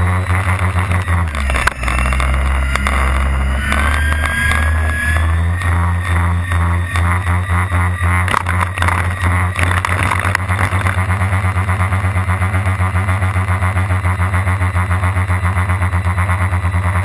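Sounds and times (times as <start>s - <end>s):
electric motors droning: 0.0s - 16.0s.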